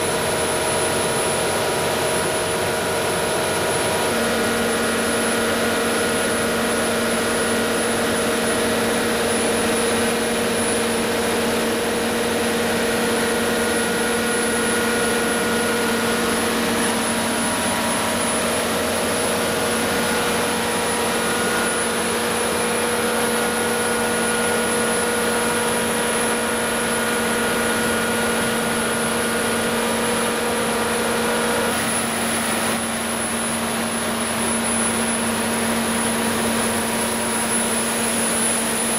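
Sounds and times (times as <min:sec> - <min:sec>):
diesel generator engine drone: 0:00.0 - 0:38.9.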